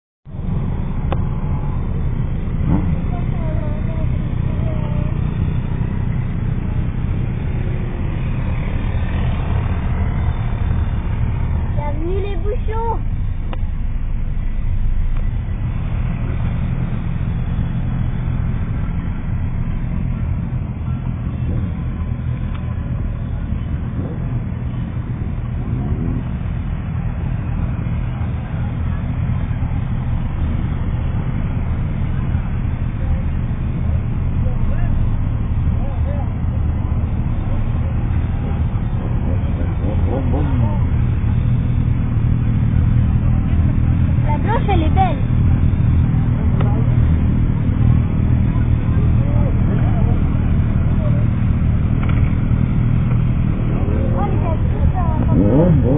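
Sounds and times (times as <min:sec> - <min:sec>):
vehicle driving on road: 0:00.2 - 0:55.9.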